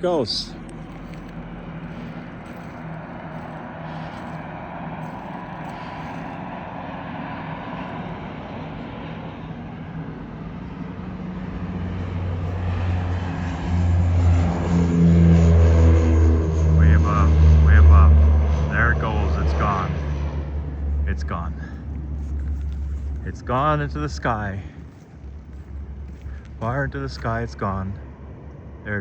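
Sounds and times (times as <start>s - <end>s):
turboprop engines droning: 0.0s - 29.0s.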